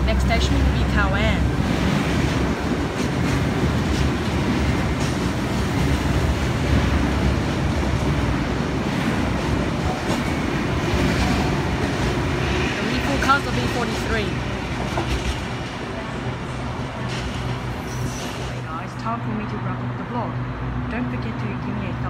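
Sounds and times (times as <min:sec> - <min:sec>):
electric train rolling past: 0:00.0 - 0:20.7.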